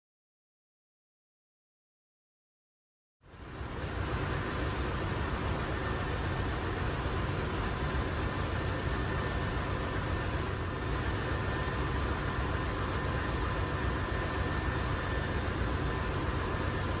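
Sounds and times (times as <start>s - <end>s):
engine room rumble: 3.2s - 17.0s
faint steady whine: 3.2s - 17.0s.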